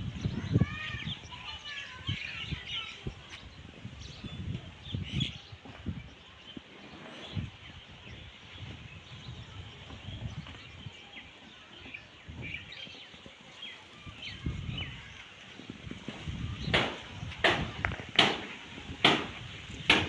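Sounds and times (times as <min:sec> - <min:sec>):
small birds chirping: 0:00.0 - 0:20.0
steady outdoor hiss: 0:00.0 - 0:20.0.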